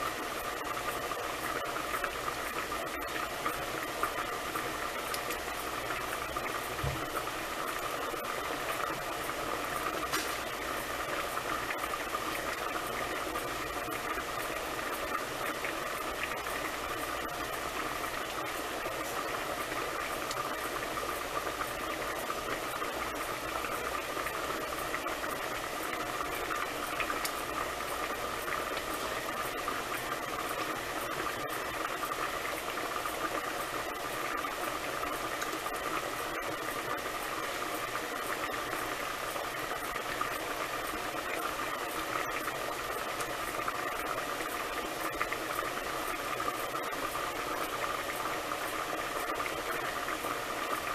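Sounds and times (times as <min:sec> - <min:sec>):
pot boiling and bubbling: 0:00.0 - 0:50.9.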